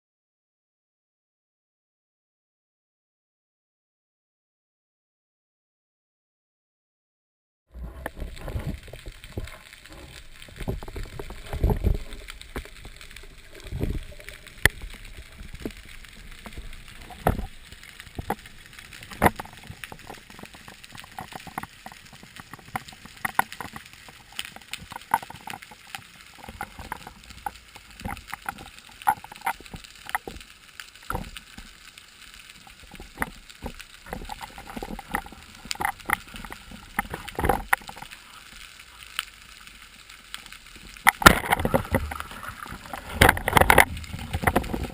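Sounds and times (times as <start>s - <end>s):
underwater clicks and crackles: 7.7s - 44.9s.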